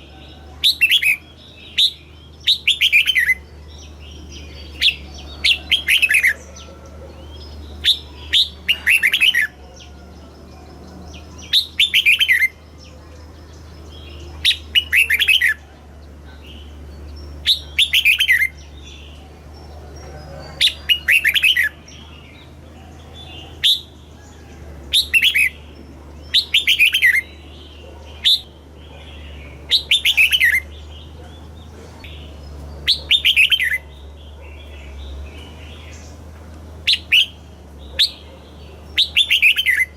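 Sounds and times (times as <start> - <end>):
bird singing descending notes: 0.0 - 39.9
steady low hum: 0.0 - 39.9.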